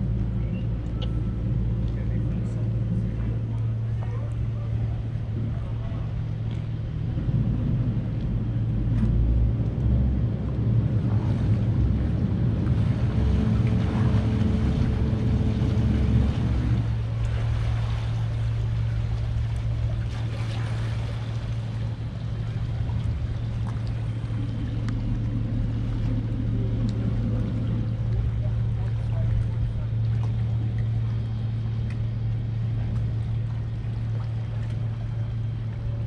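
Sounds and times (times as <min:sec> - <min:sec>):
boat engines running: 0:00.0 - 0:36.0.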